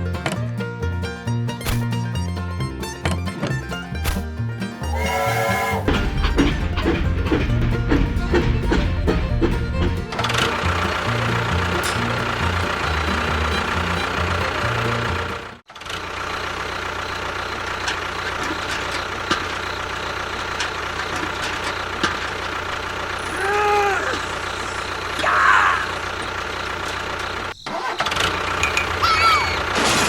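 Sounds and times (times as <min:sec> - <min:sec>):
small engine running: 0:04.8 - 0:29.2.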